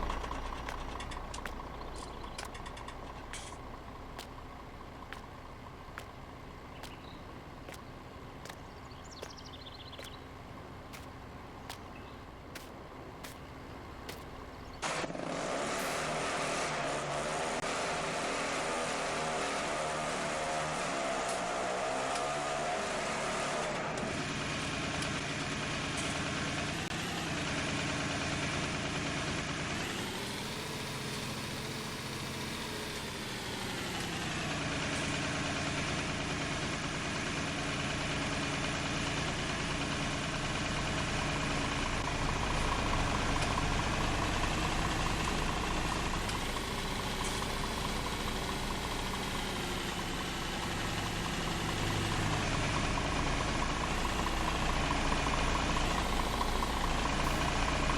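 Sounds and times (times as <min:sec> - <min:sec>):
tractor engine idling and revving: 0:00.0 - 0:57.9.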